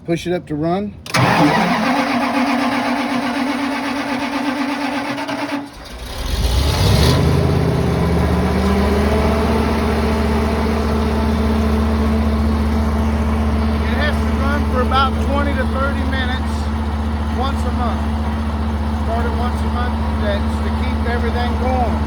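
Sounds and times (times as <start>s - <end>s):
generator engine running: 1.1s - 22.0s
starter motor cranking: 1.1s - 22.0s.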